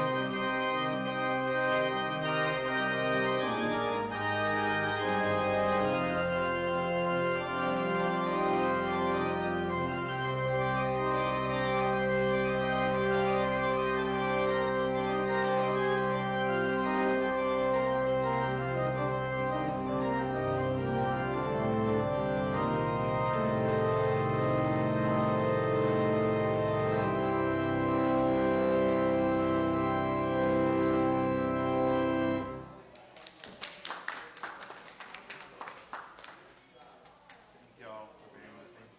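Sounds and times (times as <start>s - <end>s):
organ playing slow chords: 0.0s - 32.9s.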